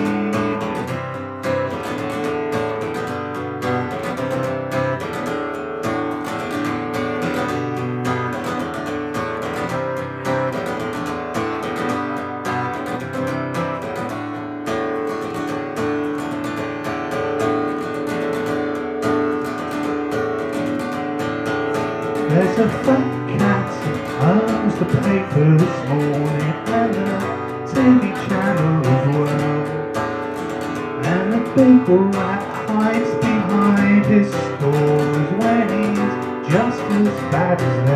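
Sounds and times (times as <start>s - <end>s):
strummed acoustic guitar: 0.0s - 37.9s.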